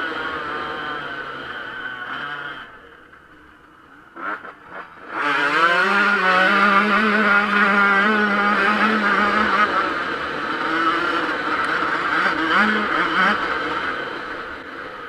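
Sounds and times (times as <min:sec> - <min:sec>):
motocross engine revving: 0:00.0 - 0:03.2, 0:04.0 - 0:15.0.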